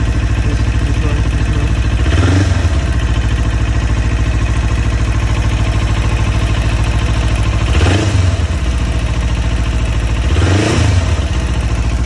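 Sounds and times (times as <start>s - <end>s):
light engine ticking: 0.0s - 12.0s
motorcycle engine idling: 0.0s - 12.0s.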